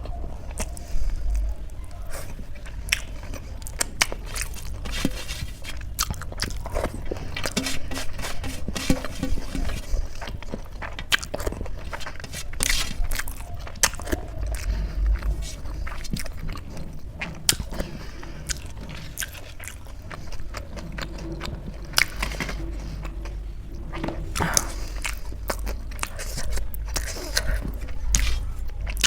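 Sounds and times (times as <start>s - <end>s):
person chewing crunchy food: 2.1s - 29.0s.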